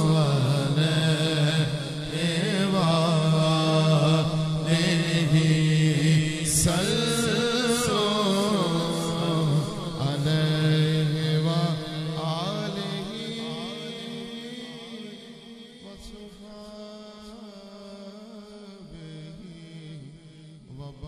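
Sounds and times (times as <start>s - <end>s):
man singing held wavering notes: 0.0s - 21.0s.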